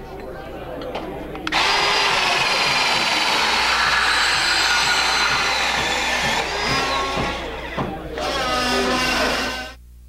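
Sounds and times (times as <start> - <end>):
band saw cutting metal pipe: 1.5 - 9.8.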